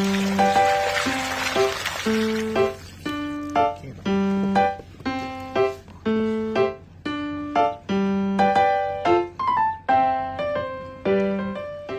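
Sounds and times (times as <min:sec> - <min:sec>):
simple keyboard melody: 0:00.0 - 0:11.9.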